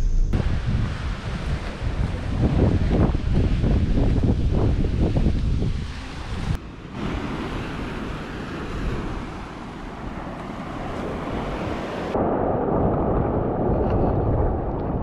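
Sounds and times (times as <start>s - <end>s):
wind buffeting microphone: 0.0s - 15.0s
surf washing on beach: 0.4s - 12.6s.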